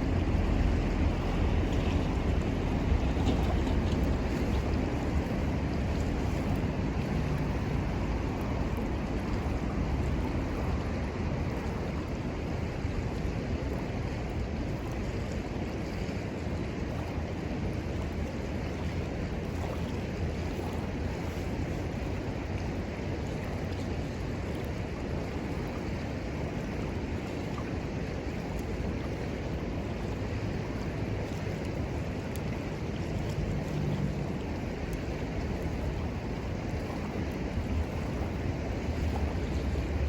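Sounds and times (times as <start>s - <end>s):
river water rushing: 0.0s - 40.0s
wind on microphone: 0.0s - 40.0s.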